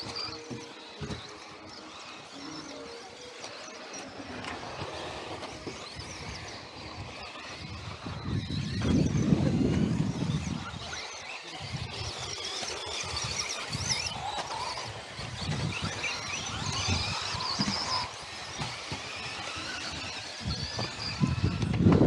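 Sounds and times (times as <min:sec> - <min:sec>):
rc buggy motors whining: 0:00.0 - 0:22.0.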